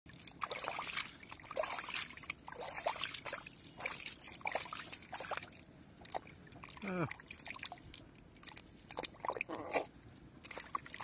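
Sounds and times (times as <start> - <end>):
hand squelching in muddy water: 0.1 - 11.0
small splashes and plops: 0.1 - 11.0.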